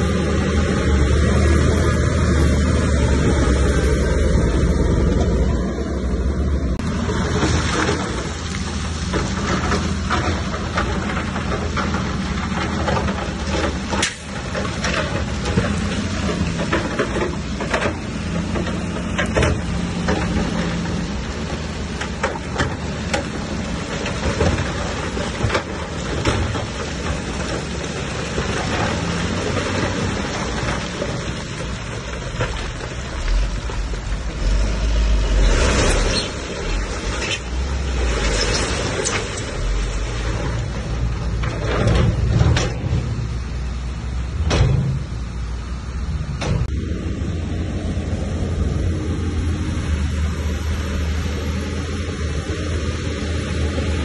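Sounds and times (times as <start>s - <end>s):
bulldozer diesel engine: 0.0s - 54.0s
track and stone clatter: 0.0s - 54.0s.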